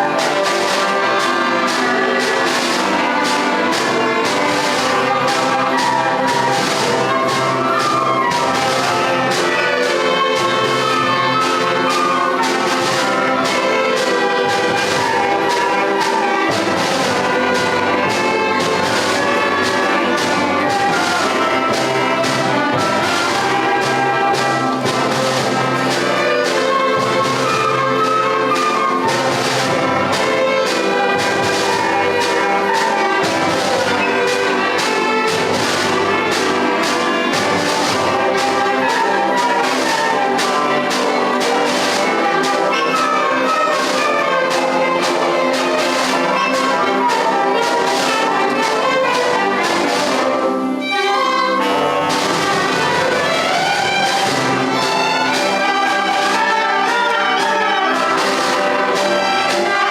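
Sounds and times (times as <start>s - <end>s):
brass instruments: 0.0s - 59.9s
school concert band playing: 0.0s - 59.9s.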